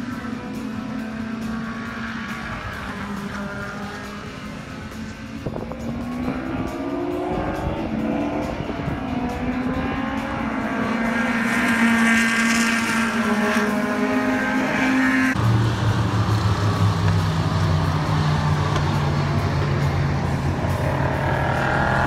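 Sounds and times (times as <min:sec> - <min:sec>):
race car engines accelerating: 0:00.0 - 0:22.0
steady car engine drone: 0:00.0 - 0:22.0.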